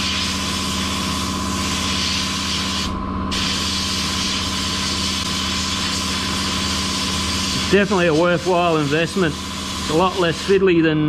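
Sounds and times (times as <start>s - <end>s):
sandblaster hissing: 0.0s - 10.7s.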